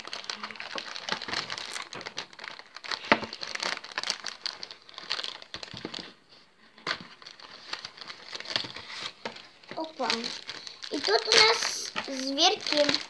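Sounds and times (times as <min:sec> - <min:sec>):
plastic packaging crinkling: 0:00.0 - 0:06.2, 0:06.8 - 0:13.0.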